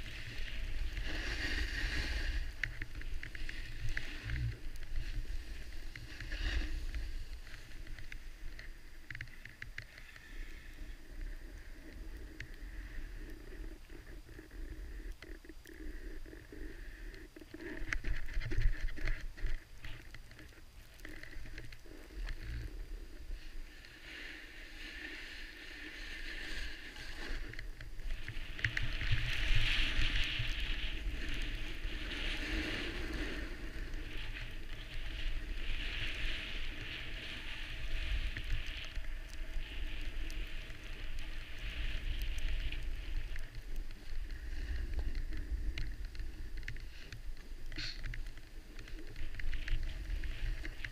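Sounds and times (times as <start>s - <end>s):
skis scraping on snow: 0.0s - 14.8s, 17.6s - 50.9s.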